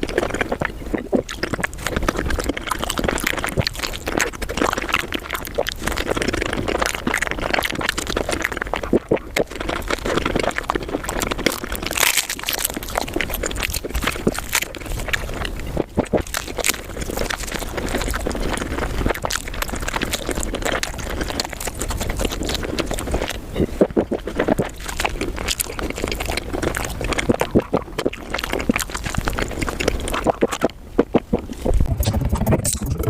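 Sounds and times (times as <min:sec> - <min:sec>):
sped up chewing sounds: 0:00.0 - 0:33.0.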